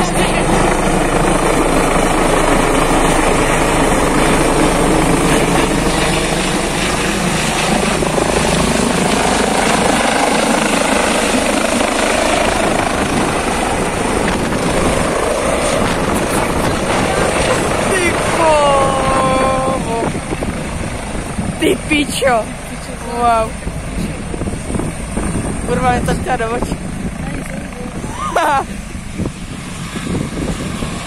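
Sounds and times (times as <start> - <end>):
helicopter rotor and turbine noise: 0.0 - 31.0.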